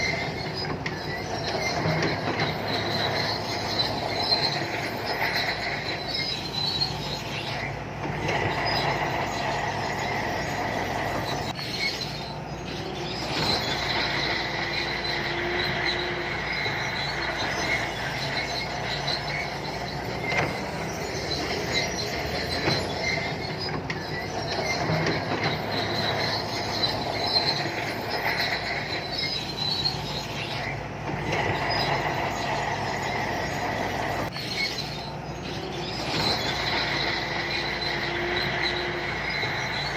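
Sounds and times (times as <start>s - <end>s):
bulldozer diesel engine running: 0.0s - 39.9s
high squeal of steel tracks: 0.0s - 39.9s.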